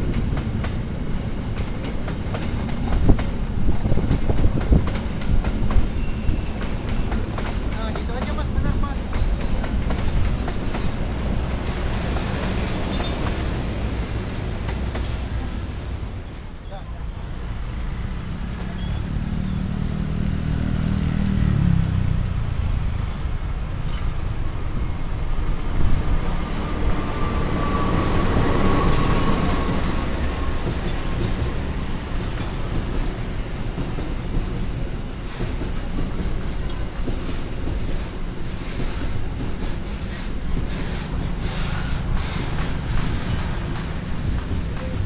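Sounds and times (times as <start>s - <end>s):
wheels clacking over rail joints: 0.0s - 15.9s, 22.6s - 45.0s.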